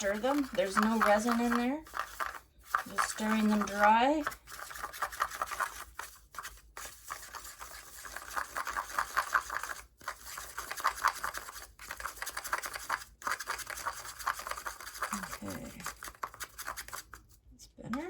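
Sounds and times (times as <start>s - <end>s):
stir stick scraping a cup: 0.0s - 17.4s.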